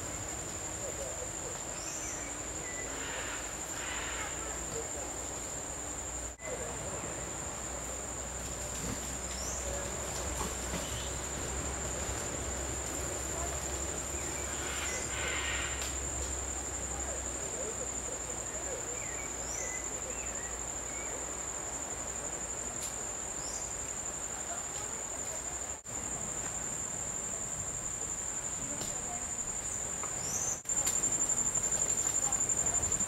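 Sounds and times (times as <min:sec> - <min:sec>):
insects trilling drone: 0:00.0 - 0:33.0.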